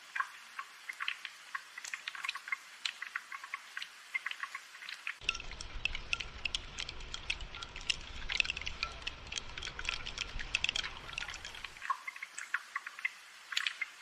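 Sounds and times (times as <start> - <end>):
raindrops falling: 0.0 - 14.0.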